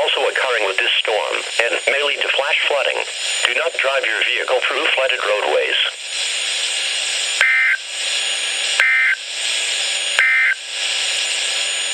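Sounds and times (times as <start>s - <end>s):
radio static: 0.0s - 11.9s.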